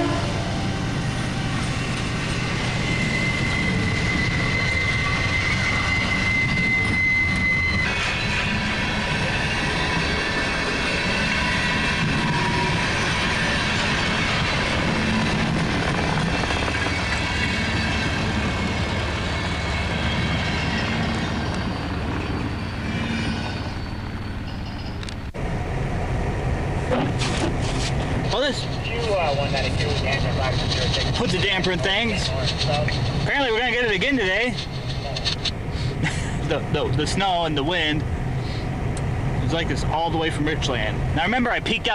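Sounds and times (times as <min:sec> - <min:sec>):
high wheel squeal: 0:00.0 - 0:25.4, 0:26.9 - 0:38.8
train rumbling past: 0:00.0 - 0:41.9.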